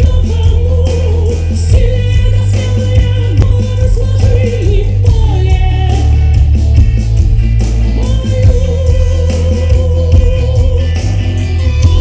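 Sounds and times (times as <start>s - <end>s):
woman singing through sound system: 0.0s - 6.9s, 7.8s - 12.0s
musical accompaniment with strong bass: 0.0s - 12.0s.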